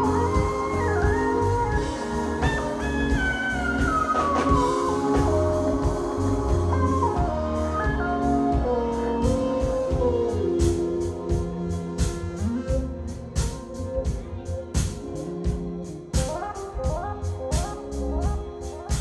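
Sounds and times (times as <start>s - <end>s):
drum kit: 0.0s - 19.0s
heavy bass: 0.0s - 19.0s
keyboards: 0.0s - 19.0s
sliding lead melody: 0.0s - 19.0s.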